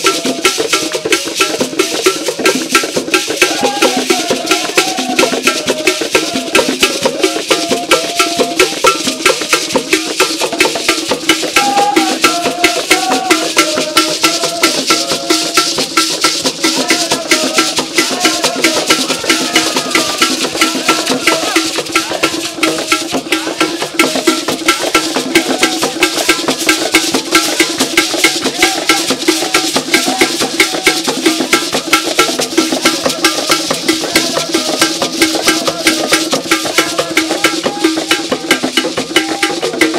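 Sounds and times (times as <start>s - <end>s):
hand drums drumming: 0.0s - 39.9s
voices singing: 0.0s - 39.9s.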